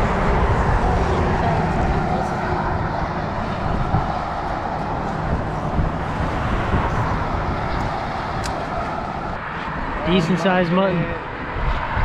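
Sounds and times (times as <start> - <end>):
wind noise on microphone: 0.0 - 10.0, 11.0 - 12.0
road traffic rumble: 0.0 - 12.0.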